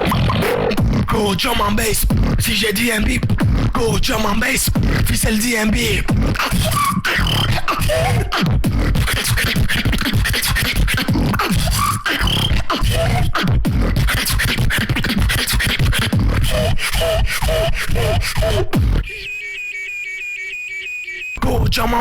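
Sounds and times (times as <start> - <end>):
beatboxing: 0.0 - 19.5.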